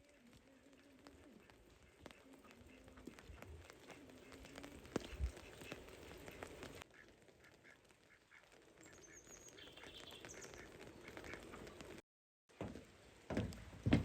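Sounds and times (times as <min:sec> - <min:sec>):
faint bird calls: 0:00.0 - 0:11.8.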